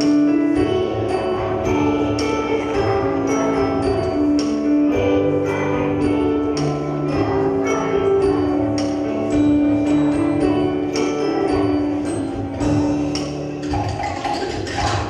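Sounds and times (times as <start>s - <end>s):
chiming bell-like music: 0.0s - 15.0s.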